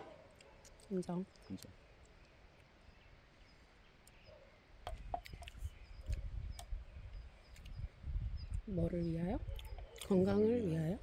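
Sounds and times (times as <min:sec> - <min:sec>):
faint bird chirps: 0:00.1 - 0:11.0.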